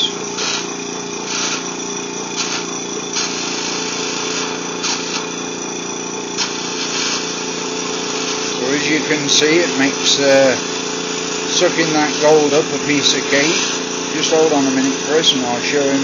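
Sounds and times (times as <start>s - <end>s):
bursts of hiss: 0.0s - 5.4s, 6.4s - 13.9s
buzzing motor hum: 0.0s - 16.0s.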